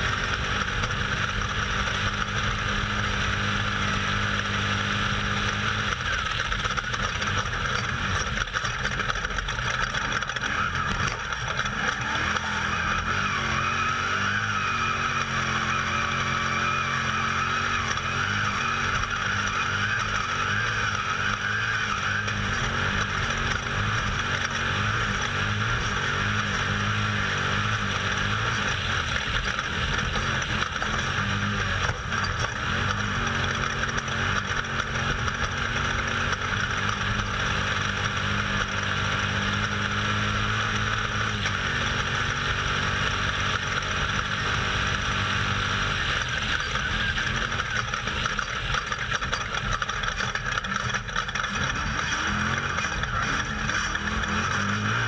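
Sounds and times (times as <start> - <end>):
race vehicle engine running hard: 0.0 - 55.0.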